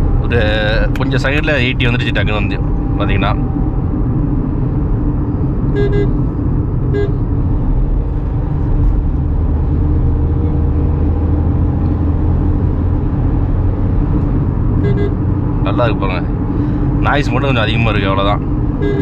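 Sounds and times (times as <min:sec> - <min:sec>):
car engine drone in cabin: 0:00.0 - 0:19.0.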